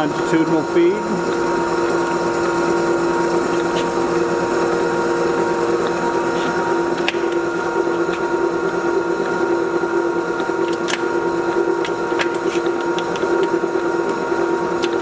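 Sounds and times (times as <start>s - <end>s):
lathe gear whine: 0.0s - 15.0s.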